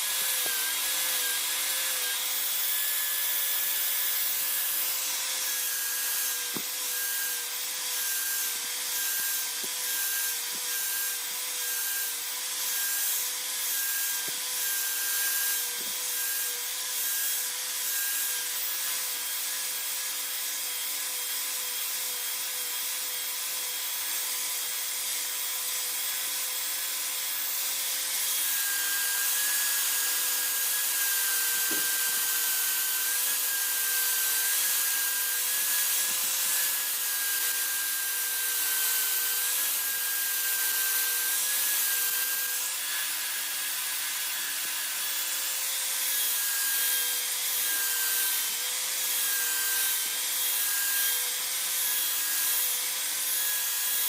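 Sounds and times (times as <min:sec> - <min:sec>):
electric sander humming: 0:00.0 - 0:20.6, 0:24.2 - 0:54.0
workpiece rasping on sander: 0:00.0 - 0:54.0.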